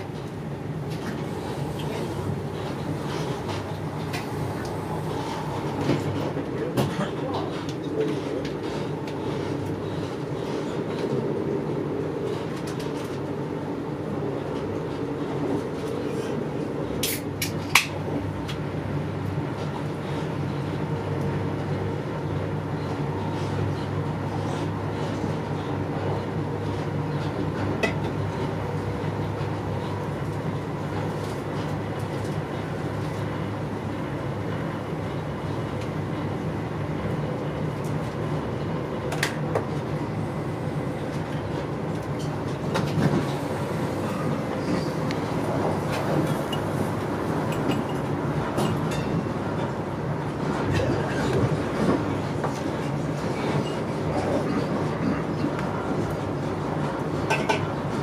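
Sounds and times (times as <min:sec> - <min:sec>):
train carriage rumbling at speed: 0:00.0 - 0:58.0.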